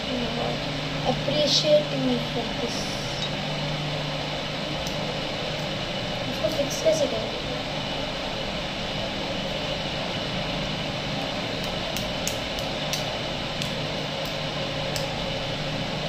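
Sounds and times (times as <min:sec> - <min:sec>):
background hiss and hum: 0:00.0 - 0:16.0.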